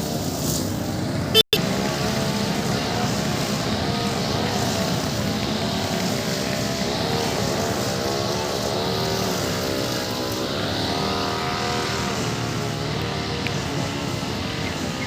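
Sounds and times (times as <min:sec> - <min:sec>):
brush cutter engine running: 0:00.6 - 0:15.0.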